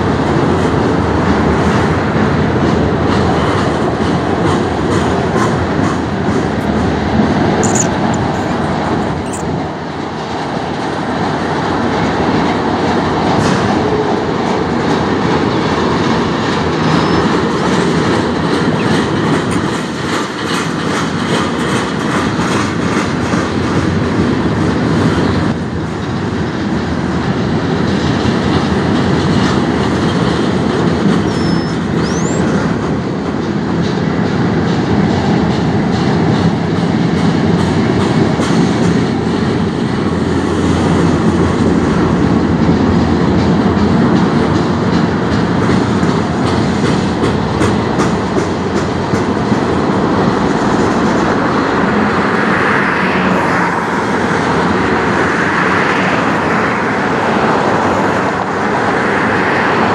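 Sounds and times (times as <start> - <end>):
steel wheels running on rails: 0.0 - 59.9
wheels clicking over rail joints: 0.0 - 59.9.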